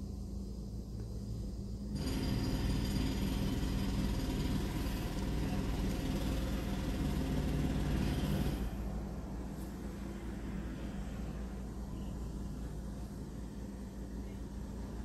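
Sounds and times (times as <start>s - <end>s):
low steady hum: 0.0s - 2.6s, 4.7s - 15.0s.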